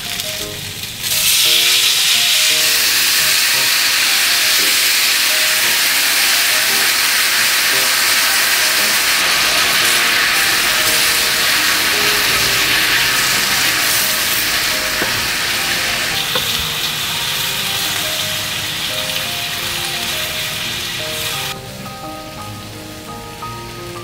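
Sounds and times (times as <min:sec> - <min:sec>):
food sizzling in skillet: 0:00.0 - 0:23.2.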